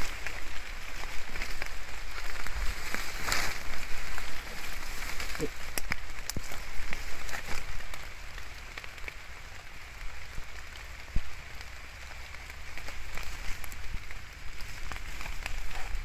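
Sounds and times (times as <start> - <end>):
heavy rain falling: 0.0 - 16.0
raindrops ticking: 0.0 - 16.0.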